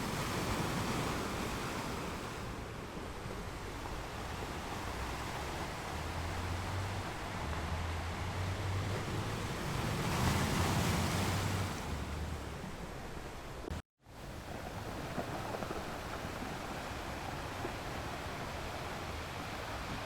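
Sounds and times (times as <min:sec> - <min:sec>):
ocean waves washing on shore: 0:00.0 - 0:20.0.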